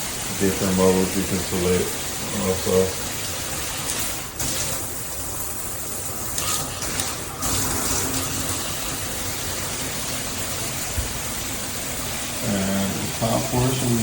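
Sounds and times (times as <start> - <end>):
shower head spraying water: 0.0 - 14.0.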